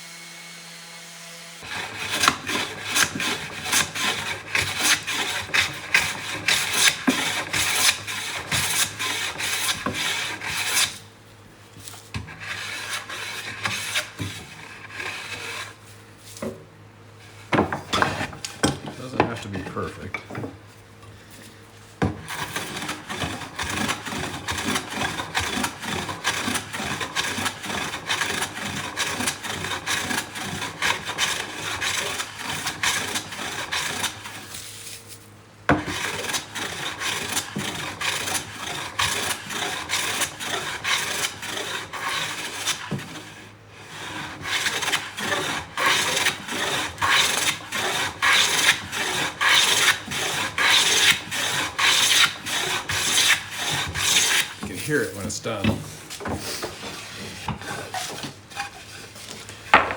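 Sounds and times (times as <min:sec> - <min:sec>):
hand rasp on wood: 0:01.6 - 0:11.0, 0:12.3 - 0:15.8, 0:22.2 - 0:34.7, 0:35.8 - 0:55.3, 0:56.2 - 0:59.9.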